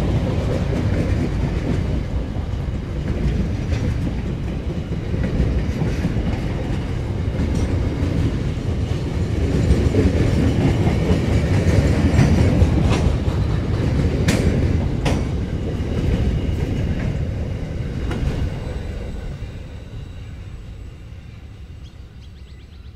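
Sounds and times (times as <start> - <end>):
train wheels clicking: 0.0 - 20.2
freight train rolling on rails: 0.0 - 22.9.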